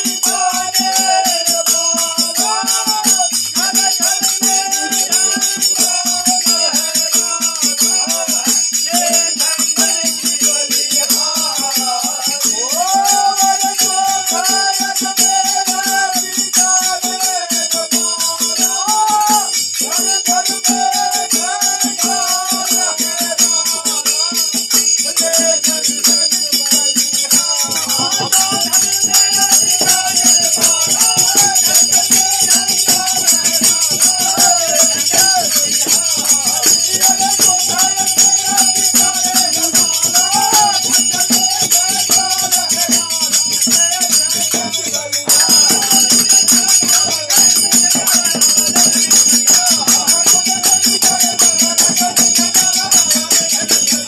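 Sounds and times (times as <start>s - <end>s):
barrel drum rhythm: 0.0s - 54.0s
men singing folk song: 0.0s - 54.0s
small hand cymbals ringing: 0.0s - 54.0s.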